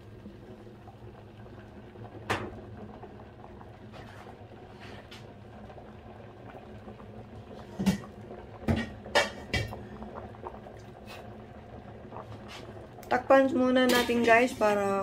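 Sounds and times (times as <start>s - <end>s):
pot simmering with low bubbling: 0.0s - 15.0s.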